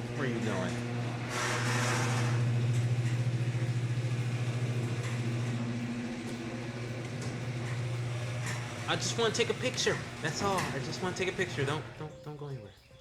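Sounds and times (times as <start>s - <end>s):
low machine hum with flutter: 0.0s - 12.7s.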